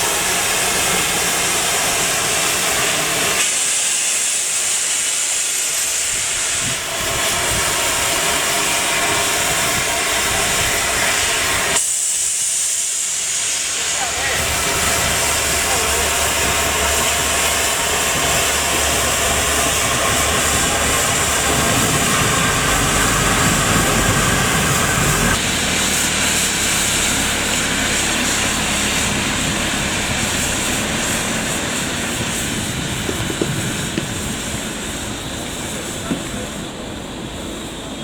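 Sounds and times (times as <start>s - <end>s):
locomotive steam hissing: 0.0s - 38.0s.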